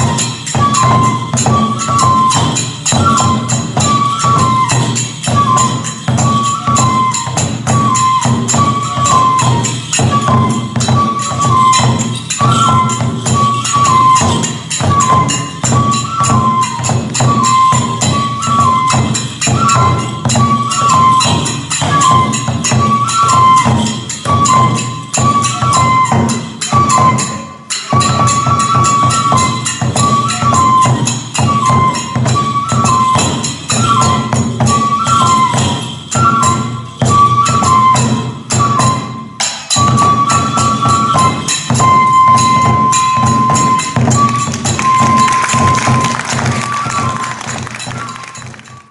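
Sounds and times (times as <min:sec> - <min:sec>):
bamboo flute melody: 0:00.0 - 0:48.9
hand cymbals clashing: 0:00.0 - 0:48.9
rapid drumbeats: 0:00.0 - 0:48.9.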